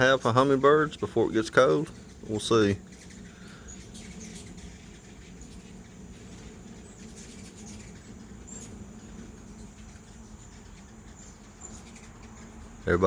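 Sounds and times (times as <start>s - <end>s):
crickets trilling: 0.0s - 13.0s
faint low hum: 0.0s - 13.0s
hummingbird chirps: 0.0s - 13.0s.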